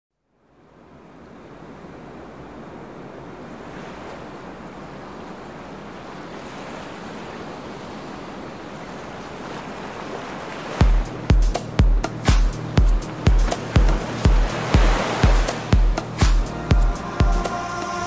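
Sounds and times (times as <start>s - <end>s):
ocean surf washing on beach: 0.5s - 18.0s.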